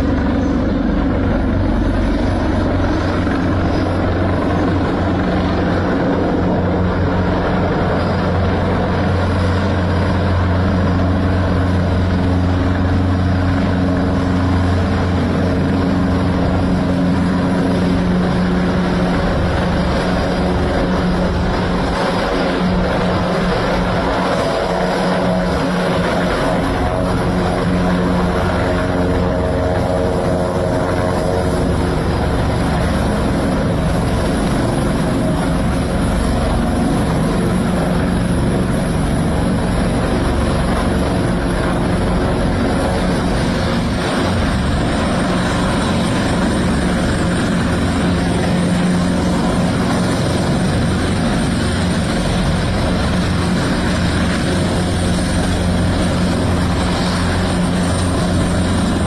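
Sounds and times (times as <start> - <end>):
helicopter rotor and turbine: 0.0 - 59.0.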